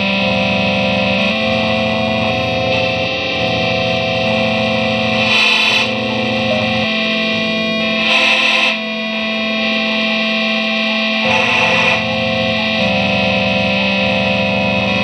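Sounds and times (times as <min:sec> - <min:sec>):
distorted drone music: 0:00.0 - 0:15.0.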